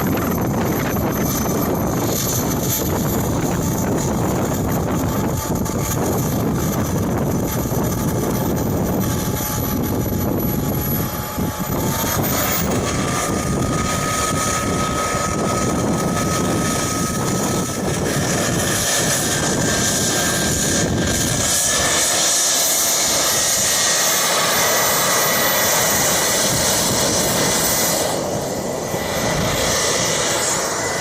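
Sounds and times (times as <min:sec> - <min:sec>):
high turbine whine: 0:00.0 - 0:31.0
jet turbine engine roaring: 0:00.0 - 0:31.0.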